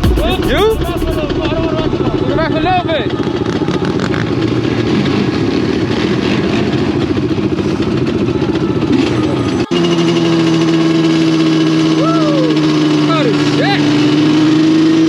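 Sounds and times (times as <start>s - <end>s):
atv engines rumbling: 1.5s - 15.0s.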